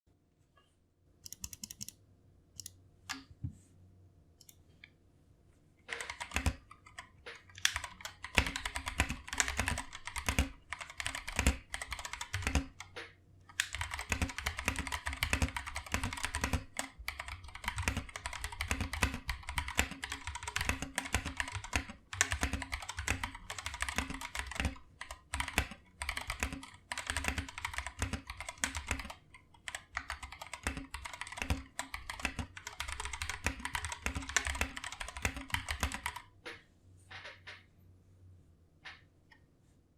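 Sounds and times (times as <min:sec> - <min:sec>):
mechanical keyboard typing: 0:01.2 - 0:02.0, 0:05.9 - 0:37.5.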